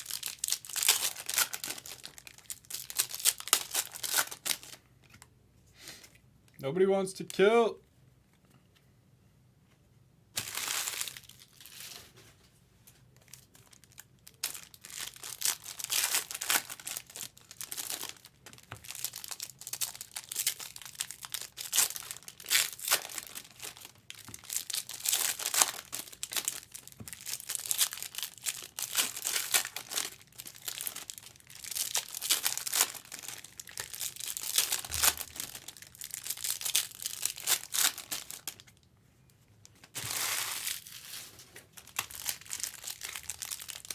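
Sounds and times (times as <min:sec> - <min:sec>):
plastic packaging crinkling and tearing: 0:00.0 - 0:05.2, 0:10.4 - 0:12.2, 0:13.1 - 0:38.9, 0:39.6 - 0:43.9.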